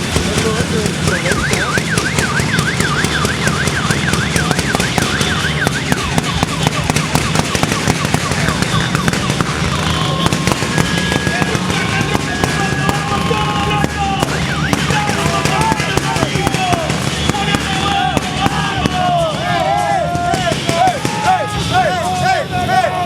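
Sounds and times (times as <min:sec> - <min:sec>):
firecracker bangs: 0:00.0 - 0:21.6
warbling siren wail: 0:01.1 - 0:23.0.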